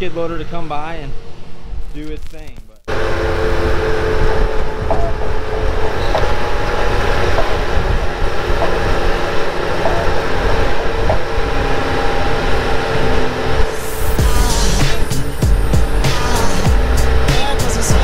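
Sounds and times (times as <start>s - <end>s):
skid steer engine running: 2.9s - 18.0s.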